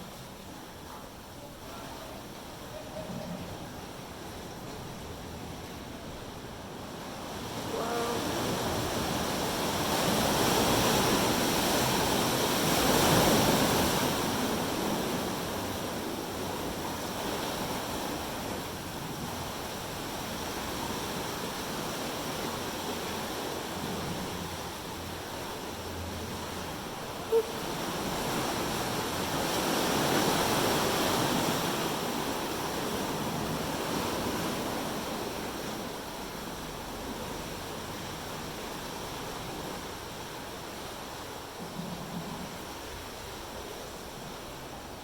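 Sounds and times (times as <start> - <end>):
waves surging into sea cave: 0.0 - 45.0.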